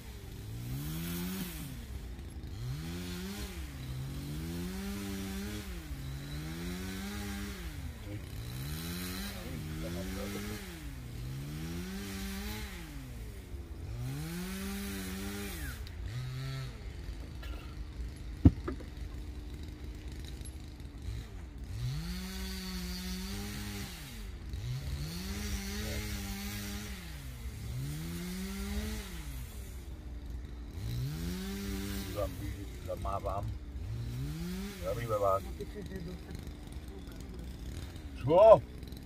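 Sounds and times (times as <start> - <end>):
chainsaw revving and cutting wood: 0.0 - 39.0.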